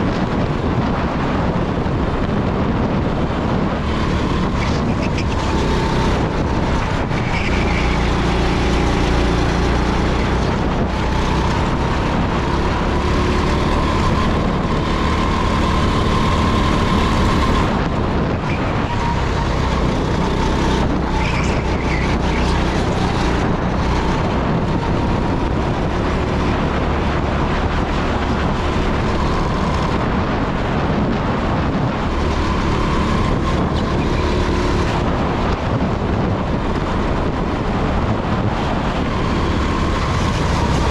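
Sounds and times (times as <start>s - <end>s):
go-kart engine running hard: 0.0s - 40.9s
wind and road noise: 0.0s - 40.9s.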